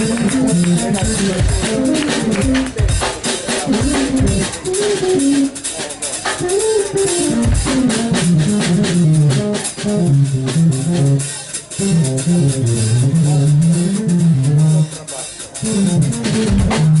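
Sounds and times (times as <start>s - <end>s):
drummer playing cymbals: 0.0s - 17.0s
keytar bass line: 0.0s - 17.0s.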